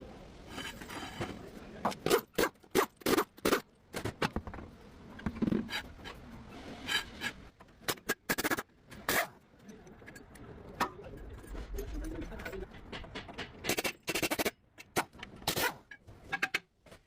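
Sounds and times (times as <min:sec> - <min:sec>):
brake parts scraping and knocking: 0:00.5 - 0:17.0.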